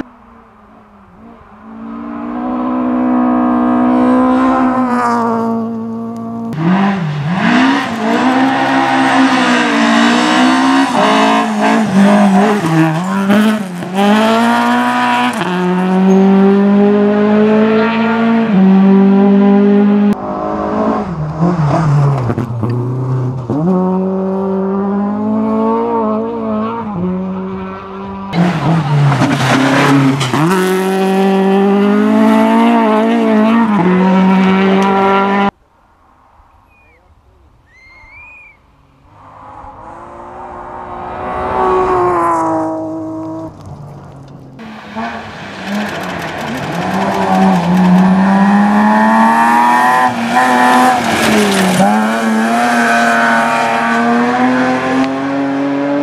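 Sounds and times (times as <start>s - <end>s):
rally car engines revving: 0.0s - 35.6s, 38.9s - 56.0s.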